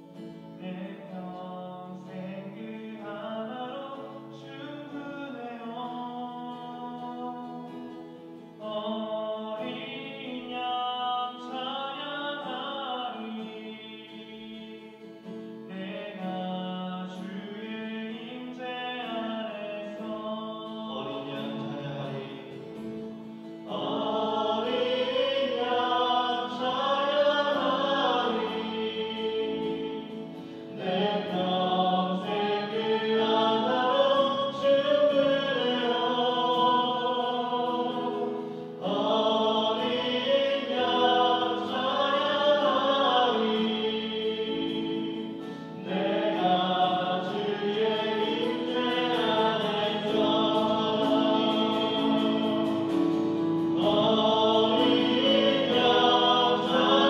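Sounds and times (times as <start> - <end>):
worship team singing: 8.6 - 57.0.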